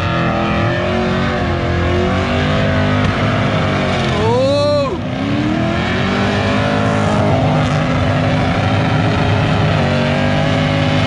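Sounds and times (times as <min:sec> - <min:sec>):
engine at high revs: 0:00.0 - 0:11.0.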